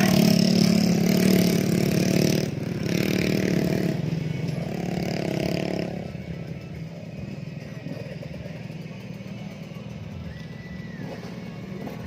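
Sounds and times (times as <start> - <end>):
dirt bike engine running hard: 0.0 - 12.0.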